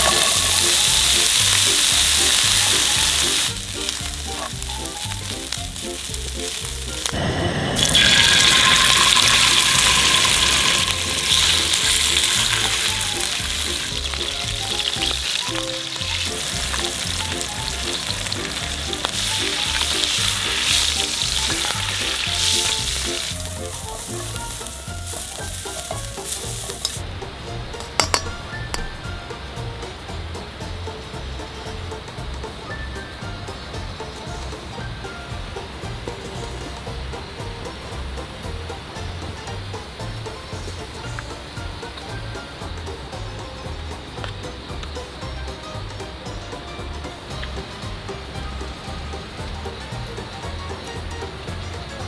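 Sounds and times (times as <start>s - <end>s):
oil sizzling in a frying pan: 0.0s - 52.0s
soft background music with beat: 0.0s - 52.0s.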